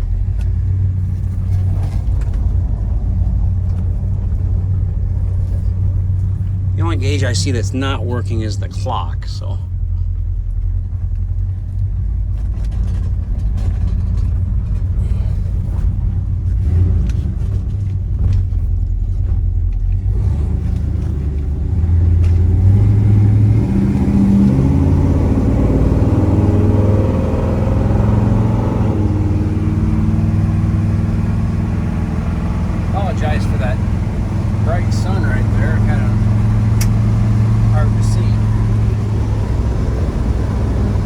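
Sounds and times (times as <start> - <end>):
car engine accelerating: 0.0 - 41.0.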